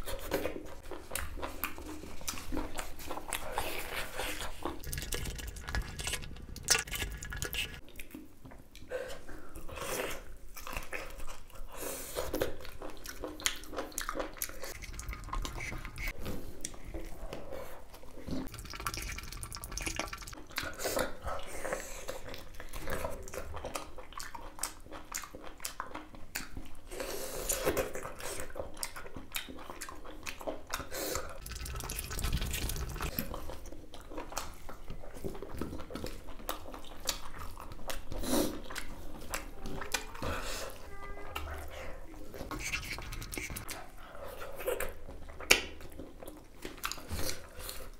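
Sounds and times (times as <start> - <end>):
wet chewing mouth sounds: 0.0 - 47.9.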